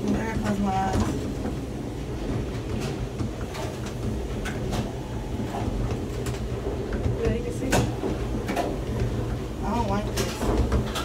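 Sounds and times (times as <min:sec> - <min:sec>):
tram car rumbling on track: 0:00.0 - 0:11.0.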